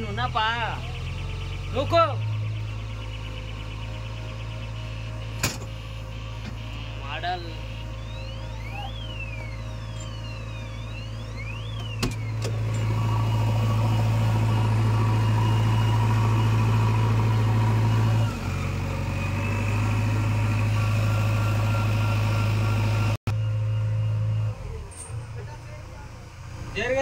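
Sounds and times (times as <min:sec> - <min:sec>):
diesel engine running under load: 0:00.0 - 0:27.0.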